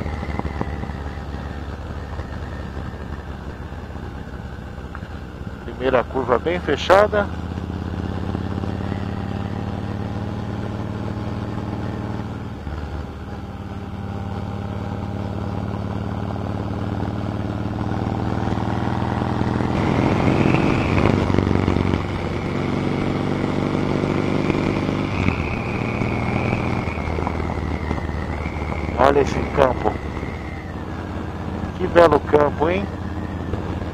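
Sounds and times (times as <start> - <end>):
motorcycle engine under load: 0.0 - 33.9.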